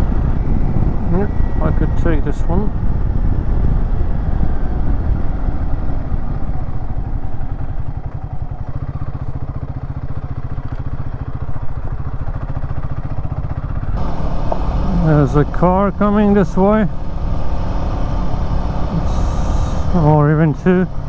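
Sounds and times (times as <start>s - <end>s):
motorcycle engine running: 2.6s - 21.0s.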